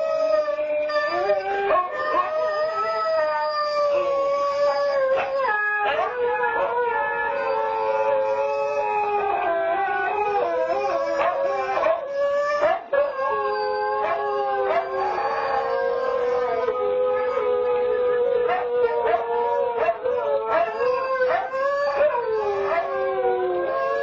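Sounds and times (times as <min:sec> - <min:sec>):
huskies howling: 0:00.0 - 0:24.0.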